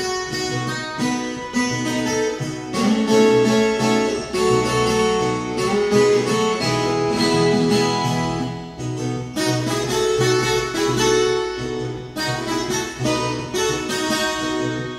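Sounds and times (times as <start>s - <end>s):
picked guitar solo: 0.0s - 14.9s.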